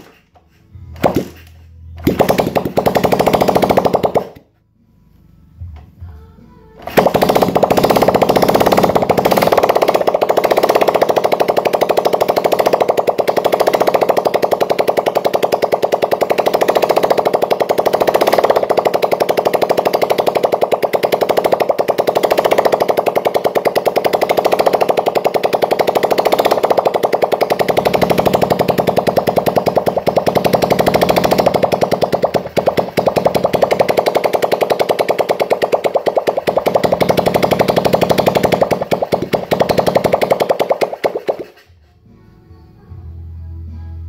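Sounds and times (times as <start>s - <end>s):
motorcycle engine popping: 1.0s - 1.4s, 2.0s - 4.5s, 6.8s - 41.7s.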